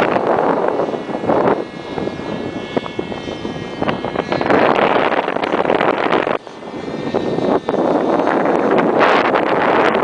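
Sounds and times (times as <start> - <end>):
model helicopter engine whine: 0.0 - 10.0
wind buffeting microphone: 0.0 - 10.0.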